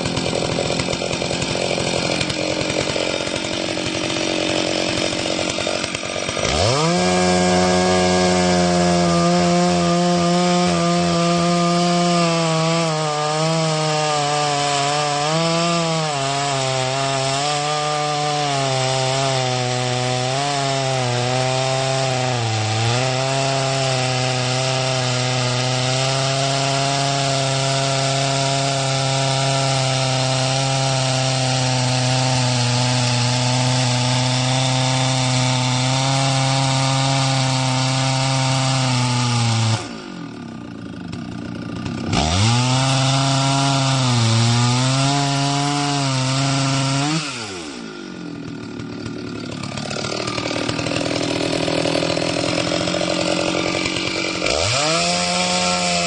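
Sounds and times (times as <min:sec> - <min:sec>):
chainsaw cutting into trunk: 0:00.0 - 0:56.0.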